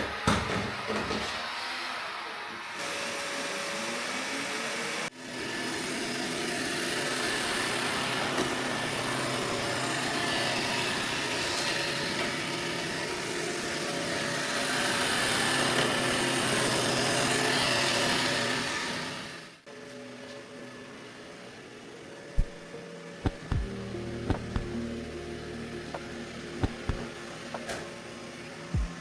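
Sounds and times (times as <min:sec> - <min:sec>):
robot vacuum cleaner whirring: 0:00.0 - 0:24.8, 0:25.9 - 0:29.0.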